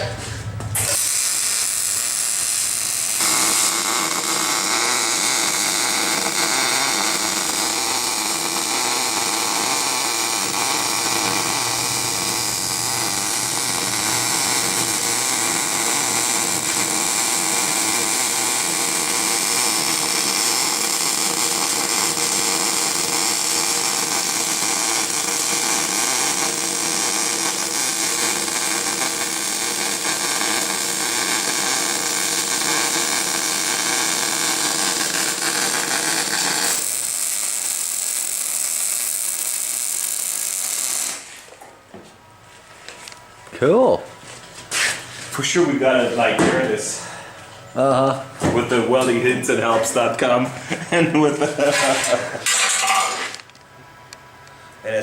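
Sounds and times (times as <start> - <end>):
arc welding hiss: 0.8 - 41.6, 49.8 - 53.5.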